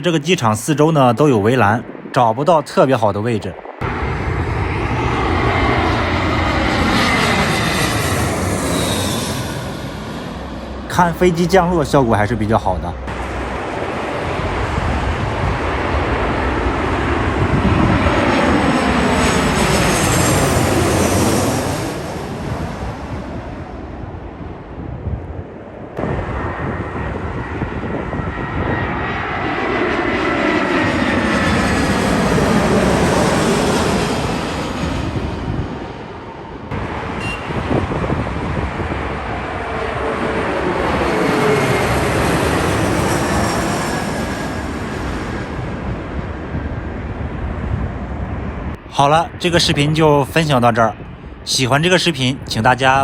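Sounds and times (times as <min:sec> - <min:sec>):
jet airliners passing: 0:00.0 - 0:53.0.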